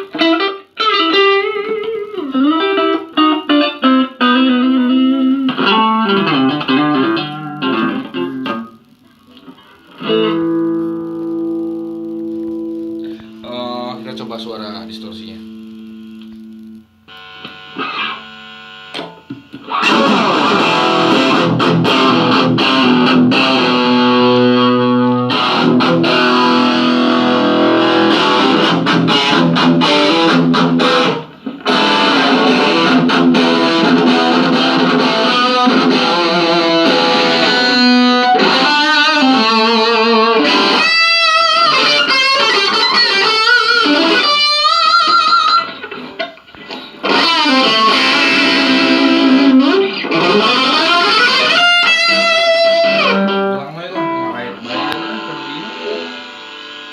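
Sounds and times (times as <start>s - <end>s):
distorted electric guitar: 0.0s - 56.9s.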